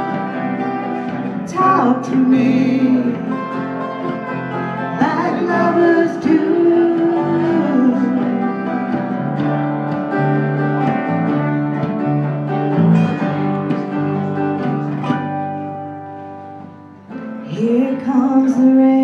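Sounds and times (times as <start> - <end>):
plucked guitar: 0.0 - 19.0.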